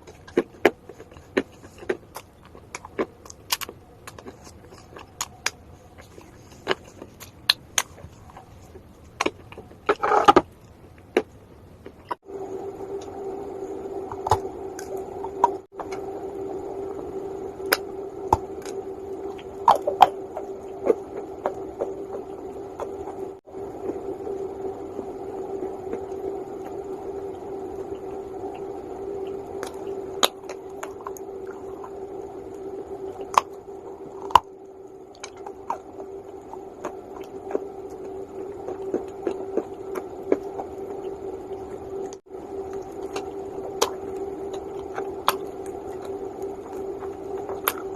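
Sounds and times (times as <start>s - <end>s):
steady background hum: 0.0s - 47.9s.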